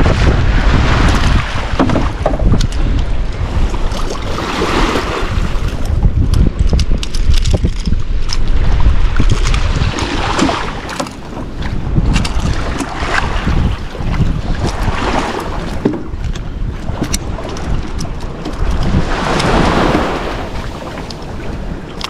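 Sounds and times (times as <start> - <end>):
water washing and surging: 0.0 - 22.0
wind buffeting microphone: 0.0 - 22.0.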